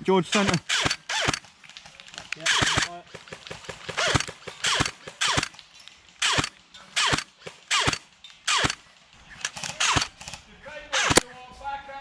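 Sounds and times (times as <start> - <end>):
airsoft guns firing bursts: 0.2 - 11.3.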